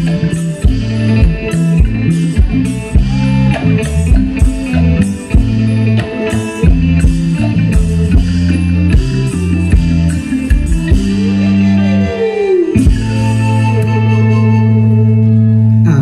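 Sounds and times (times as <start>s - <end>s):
drums keeping a steady beat: 0.0s - 12.1s, 12.8s - 13.8s
heavy bass line: 0.0s - 16.0s
plucked electric strings: 0.0s - 16.0s.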